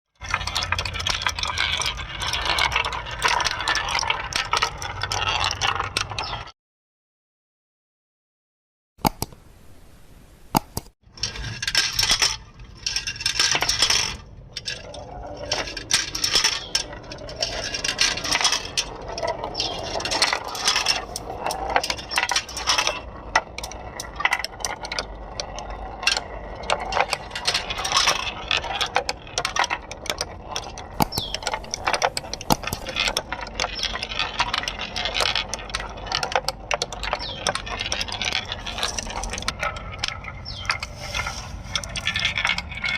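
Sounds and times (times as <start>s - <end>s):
marbles rattling down a marble run: 0.2s - 6.5s, 11.2s - 42.9s.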